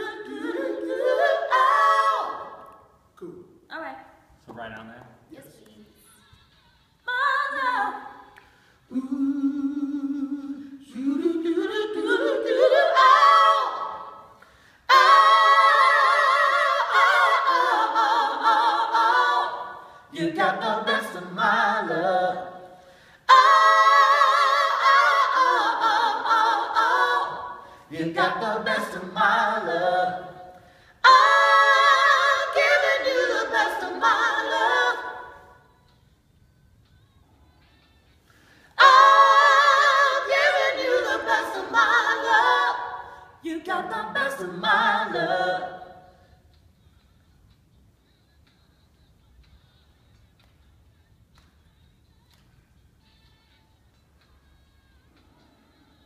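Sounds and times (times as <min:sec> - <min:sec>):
a cappella group singing in harmony: 0:00.0 - 0:04.4, 0:06.0 - 0:56.0.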